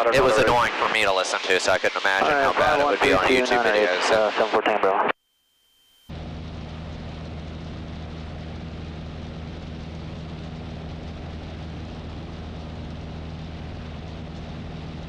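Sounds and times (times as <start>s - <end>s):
airplane engine and propeller drone: 0.0s - 4.8s, 6.1s - 15.0s.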